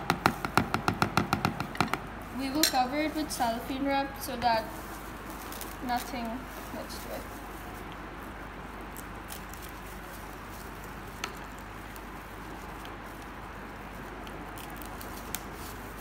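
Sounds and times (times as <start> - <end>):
cling film crinkling: 2.2 - 16.0.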